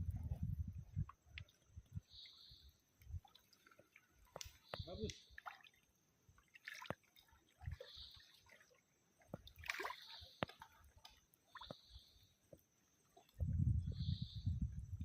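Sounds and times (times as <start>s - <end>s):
water splashes and drips: 0.0s - 13.7s.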